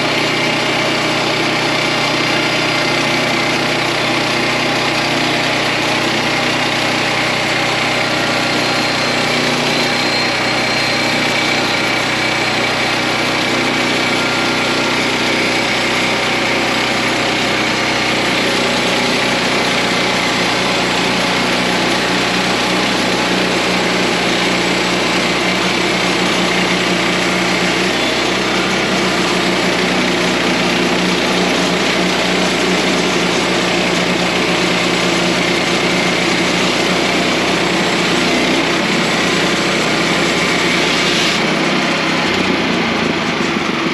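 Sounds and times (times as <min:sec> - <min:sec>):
small gasoline engine running: 0:00.0 - 0:43.9.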